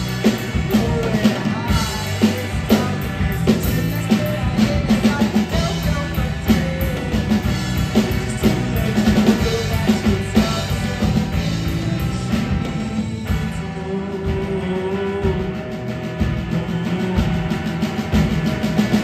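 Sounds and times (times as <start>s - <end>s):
bass guitar: 0.0s - 19.0s
drum kit: 0.0s - 19.0s
guitar: 0.0s - 19.0s
keyboard: 0.0s - 19.0s.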